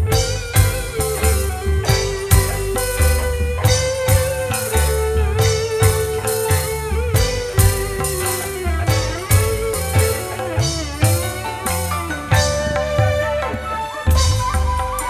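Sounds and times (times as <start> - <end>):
bass and drums beat: 0.0 - 15.0
lead electric guitar melody: 0.0 - 15.0.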